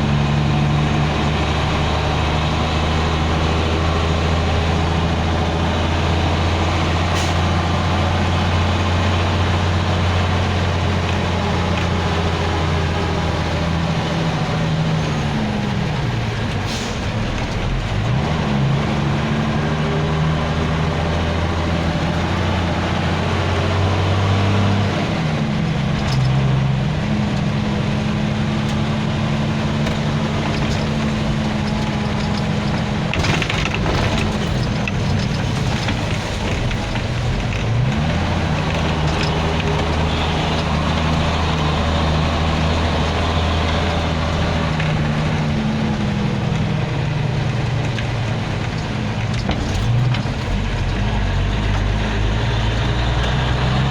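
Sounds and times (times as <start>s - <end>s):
vehicle engine running: 0.0s - 53.9s.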